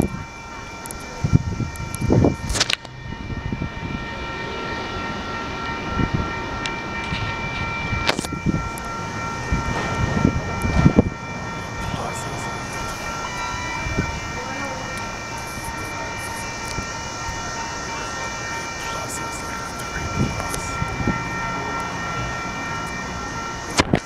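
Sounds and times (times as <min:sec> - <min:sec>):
high-pitched ringing: 0:00.0 - 0:24.0
train cars rumbling on steel wheels: 0:00.0 - 0:24.0
train clanks and knocks: 0:00.0 - 0:24.0.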